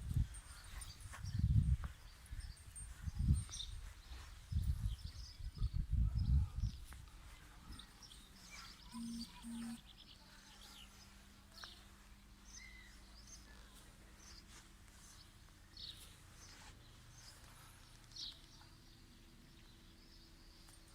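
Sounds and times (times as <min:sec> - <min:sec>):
birds chirping: 0:00.1 - 0:20.9.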